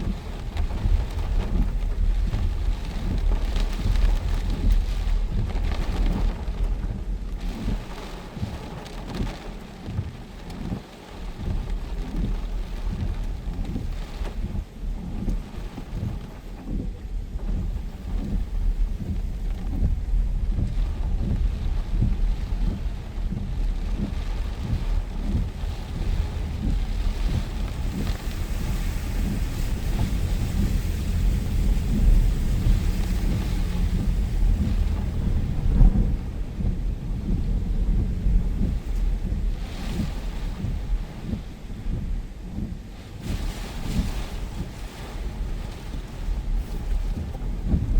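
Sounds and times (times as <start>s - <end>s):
rain hiss: 0.0s - 47.9s
storm wind buffeting microphone: 0.0s - 47.9s.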